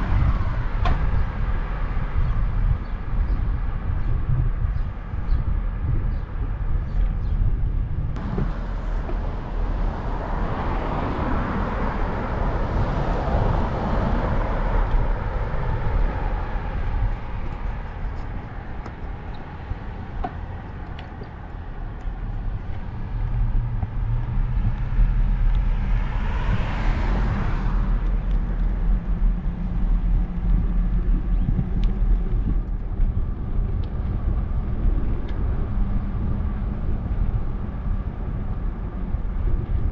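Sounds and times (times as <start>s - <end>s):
cars passing: 0.0s - 4.0s, 8.1s - 39.9s
wind rumble on microphone: 0.0s - 39.9s.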